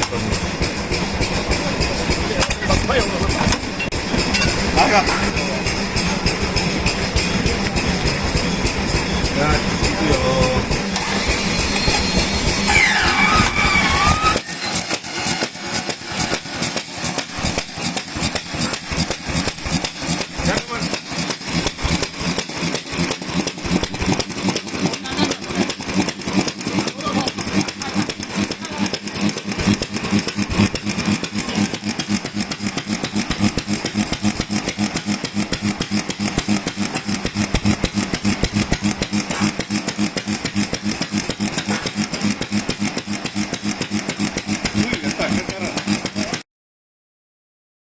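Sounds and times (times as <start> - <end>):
stationary engine running: 0.0 - 46.4.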